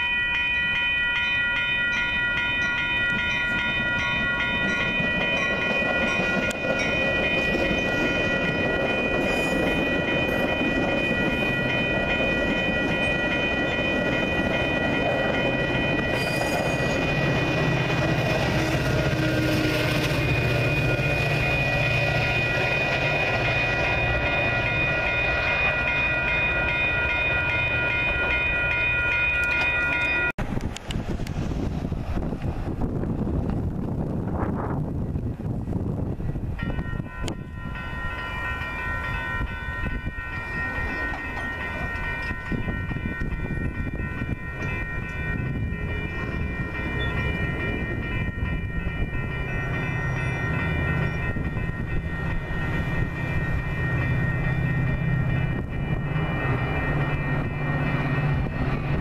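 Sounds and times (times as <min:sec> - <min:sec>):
crossing bells ringing: 0:00.0 - 0:30.5, 0:35.9 - 0:59.0
diesel locomotive engine drone: 0:00.0 - 0:59.0
train wheels clacking: 0:01.2 - 0:31.4, 0:36.6 - 0:59.0.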